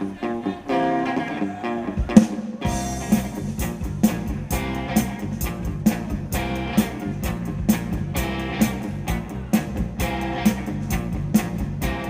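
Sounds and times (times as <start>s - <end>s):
electric guitar: 0.0s - 12.0s
drum beat: 2.0s - 12.0s.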